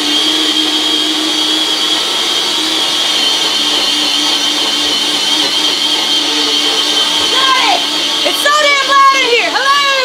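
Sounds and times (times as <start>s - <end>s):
small motor whirring: 0.0s - 10.0s.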